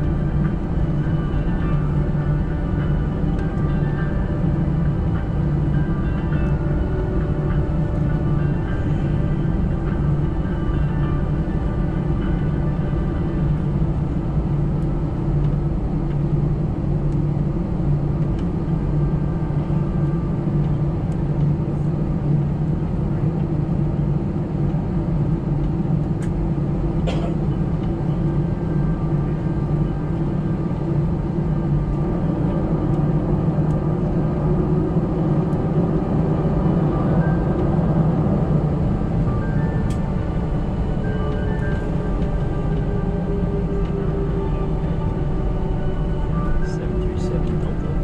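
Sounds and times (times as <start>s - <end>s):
jet engines humming in cabin: 0.0s - 48.0s.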